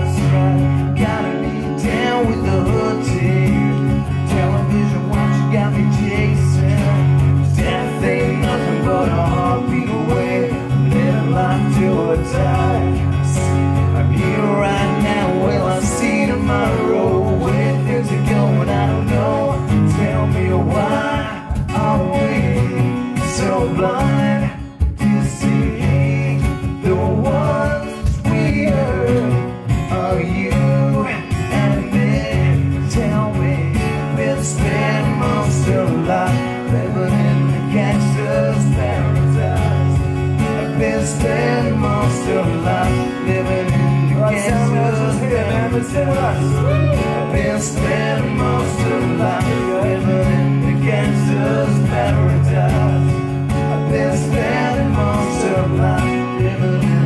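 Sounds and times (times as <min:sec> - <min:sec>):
acoustic guitars playing: 0:00.0 - 0:57.0.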